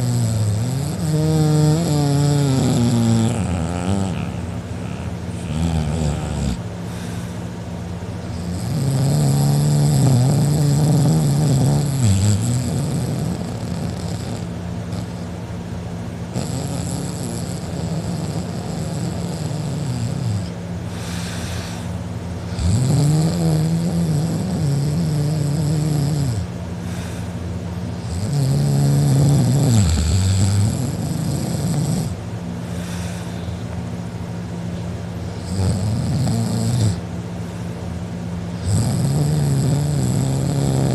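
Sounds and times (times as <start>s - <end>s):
man snoring loudly: 0.0s - 7.4s, 8.3s - 15.3s, 16.3s - 27.3s, 28.0s - 33.6s, 35.3s - 37.0s, 38.6s - 40.9s.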